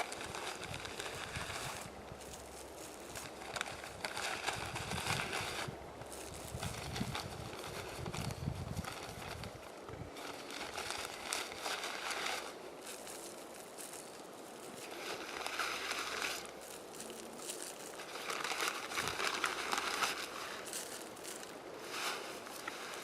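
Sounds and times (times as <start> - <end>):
pellets scattering on dry ground: 0.0 - 23.0.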